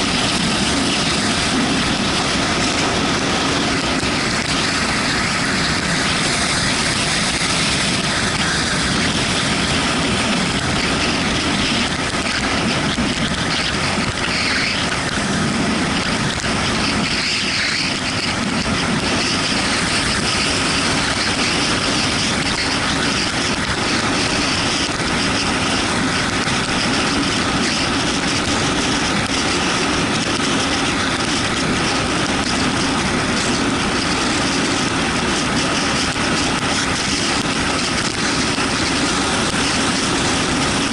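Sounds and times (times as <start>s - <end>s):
motorcycle engine running: 0.0s - 40.9s
wet road noise: 0.0s - 40.9s
wind rushing: 0.0s - 40.9s.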